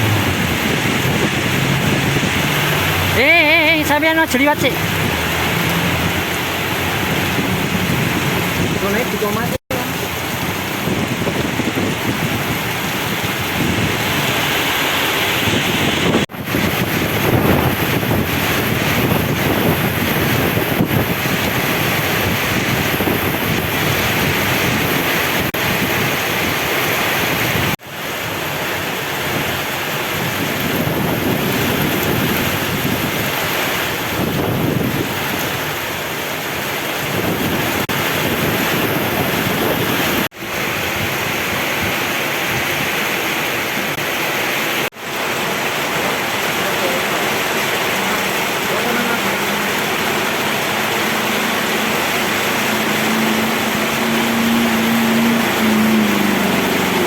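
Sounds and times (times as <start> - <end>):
heavy rain pouring: 0.0 - 57.0
wind gusting over microphone: 0.0 - 57.0.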